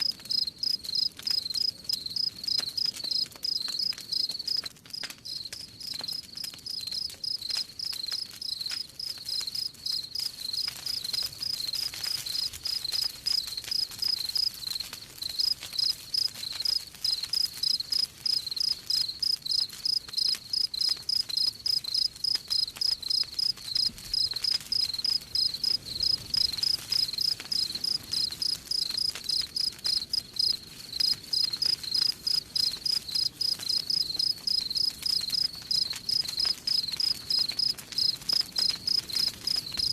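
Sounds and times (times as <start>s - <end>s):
wood fire crackling: 0.0s - 39.9s
crickets chirping: 0.3s - 4.6s, 5.3s - 11.7s, 12.3s - 39.9s.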